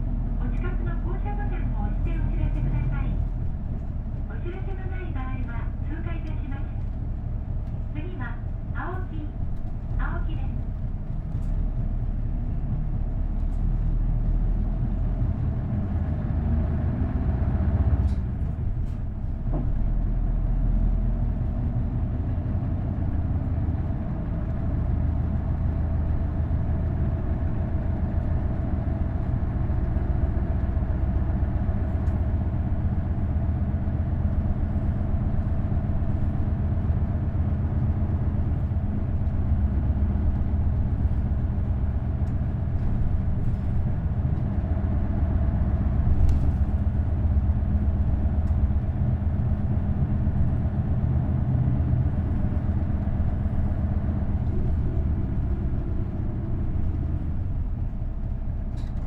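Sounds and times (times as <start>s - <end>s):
diesel bus engine: 0.0s - 59.0s.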